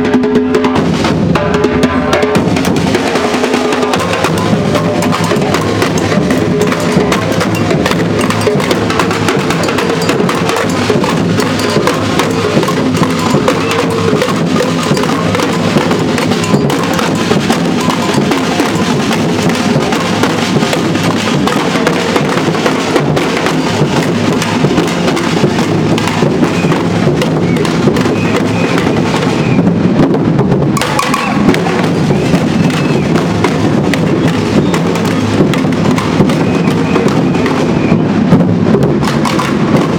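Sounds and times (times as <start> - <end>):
bass drums: 0.0 - 39.9
snare drums: 0.0 - 39.9.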